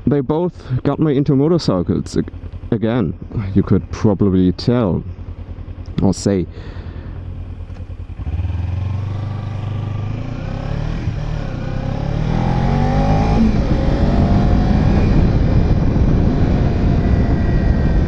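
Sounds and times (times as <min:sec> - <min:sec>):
motorcycle engine accelerating: 0:01.7 - 0:18.0.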